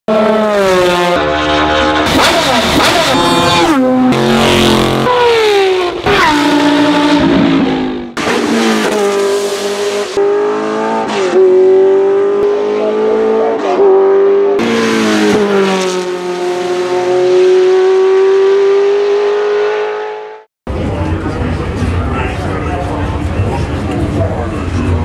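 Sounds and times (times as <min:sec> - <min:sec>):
racing engine at high revs: 0:00.1 - 0:25.0.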